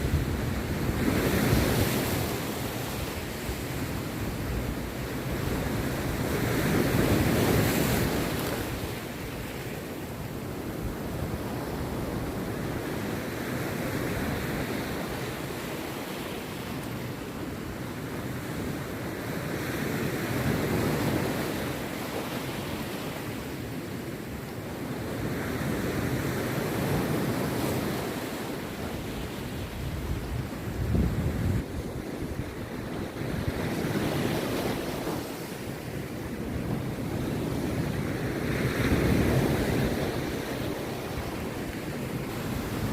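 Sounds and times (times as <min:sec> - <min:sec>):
sea surf breaking on beach: 0:00.0 - 0:42.9.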